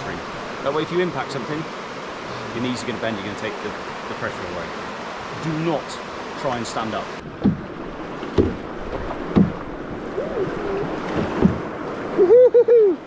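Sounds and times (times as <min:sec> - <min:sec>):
paddle strokes splashing: 0:00.0 - 0:12.3
rushing river rapids: 0:00.0 - 0:13.0.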